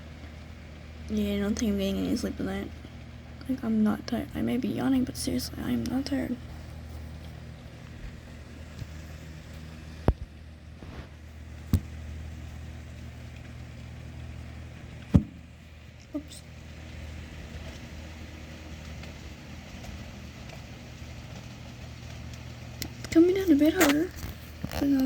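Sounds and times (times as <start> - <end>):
constant low hum: 0.0 - 25.0
steady rain: 0.0 - 25.0.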